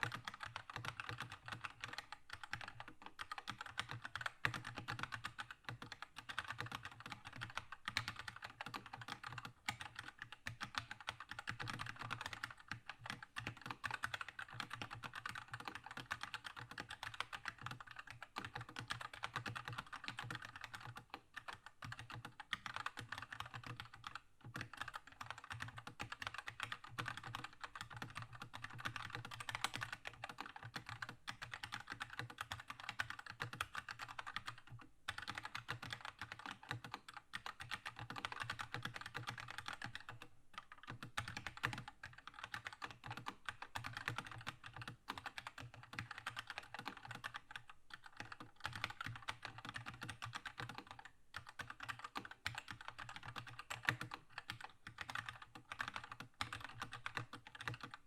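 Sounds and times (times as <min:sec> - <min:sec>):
fast mechanical keyboard typing: 0:00.0 - 0:58.0.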